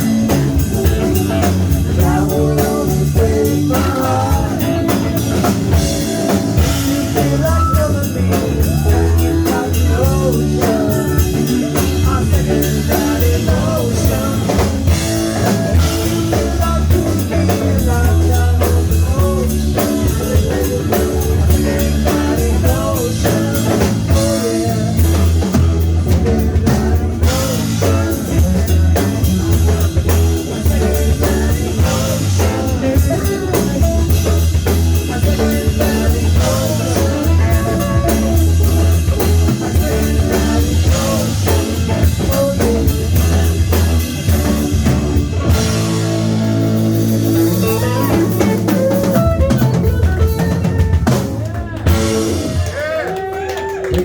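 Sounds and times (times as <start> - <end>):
bass guitar: 0.0 - 54.0
drum kit with rimshots: 0.0 - 54.0
electric guitar: 0.0 - 54.0
live rock band playing: 0.0 - 54.0.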